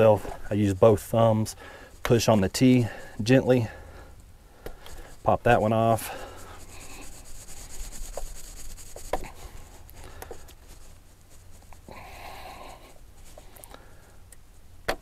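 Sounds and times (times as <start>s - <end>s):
gloved hands rubbing plastic: 0.0s - 3.9s, 4.7s - 14.7s.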